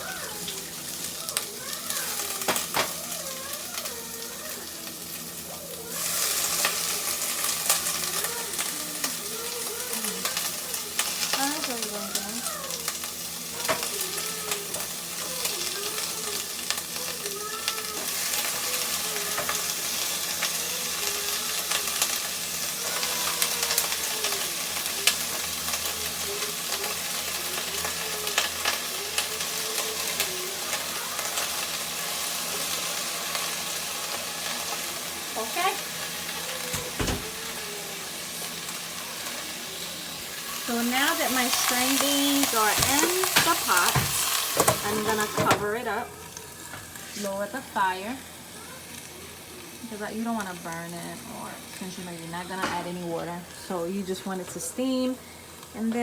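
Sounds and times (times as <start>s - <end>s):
beans sizzling in hot oil: 0.0s - 56.0s.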